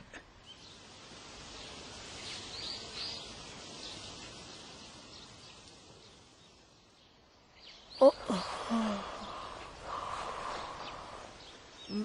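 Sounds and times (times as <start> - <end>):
small birds chirping: 0.0 - 12.0
steady outdoor hiss: 0.0 - 12.0.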